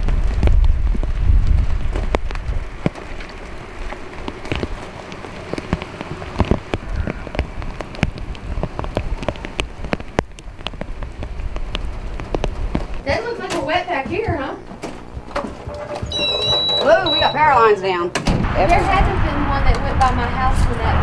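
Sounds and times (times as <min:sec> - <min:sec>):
heavy low rumble: 0:00.0 - 0:17.5, 0:18.4 - 0:21.0
rain falling: 0:00.0 - 0:17.5, 0:18.4 - 0:21.0
raindrops ticking on surfaces: 0:00.0 - 0:17.5, 0:18.4 - 0:21.0.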